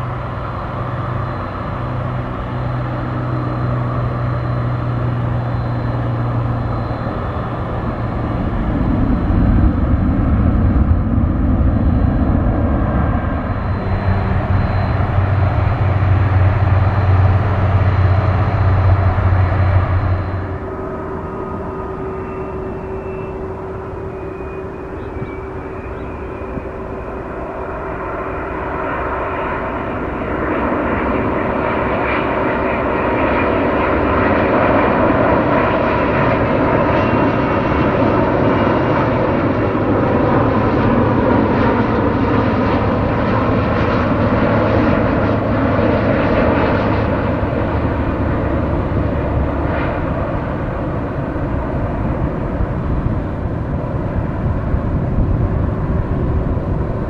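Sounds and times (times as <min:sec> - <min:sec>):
jet airliner rumble with whine: 0:00.0 - 0:57.0.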